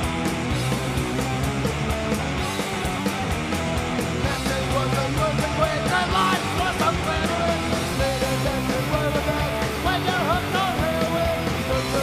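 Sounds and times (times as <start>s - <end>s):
punk rock music with singing: 0.0s - 12.0s.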